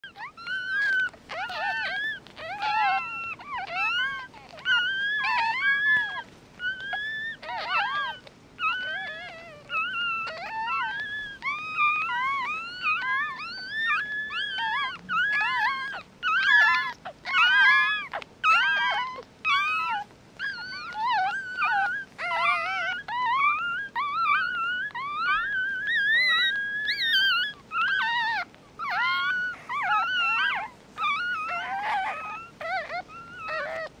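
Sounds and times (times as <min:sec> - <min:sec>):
puppies crying and squeaking: 0:00.0 - 0:34.0.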